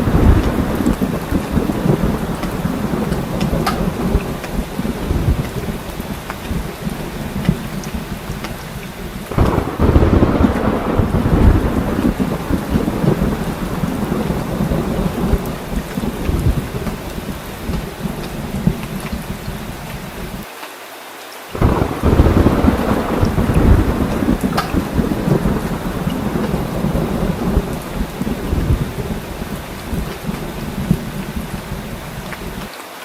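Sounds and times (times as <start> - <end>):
thunder rumbling: 0.0 - 20.4, 21.6 - 32.7
heavy rain pouring: 0.0 - 33.0.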